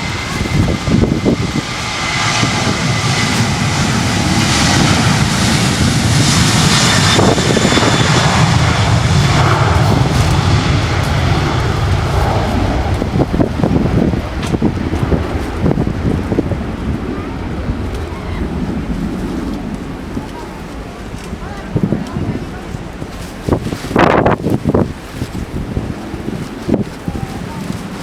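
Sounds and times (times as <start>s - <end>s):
airliner engines roaring: 0.0s - 28.0s
wind buffeting microphone: 0.0s - 28.0s.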